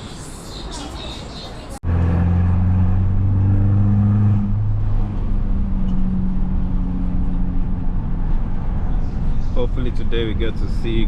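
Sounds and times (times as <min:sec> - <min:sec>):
car engine and exhaust droning: 0:01.8 - 0:11.0.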